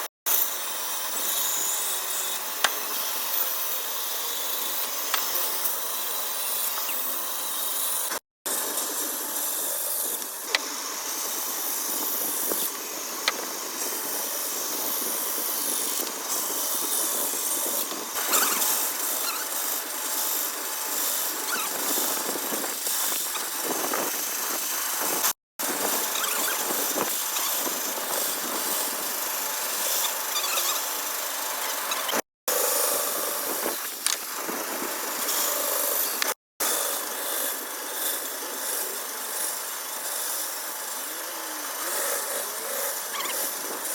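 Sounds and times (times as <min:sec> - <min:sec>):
woodworking machine cutting wood: 0:00.0 - 0:43.9.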